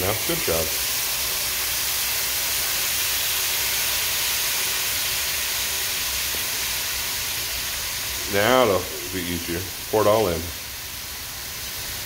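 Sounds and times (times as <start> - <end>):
sausages hissing in a pan: 0.0 - 12.0.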